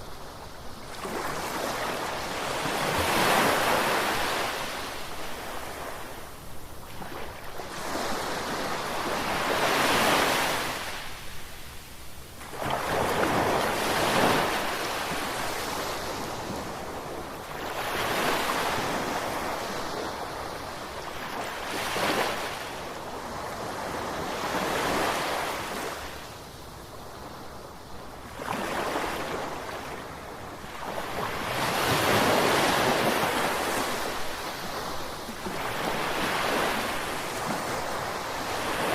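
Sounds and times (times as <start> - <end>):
ocean waves breaking on shore: 0.1 - 11.6, 12.4 - 26.4, 27.0 - 38.9.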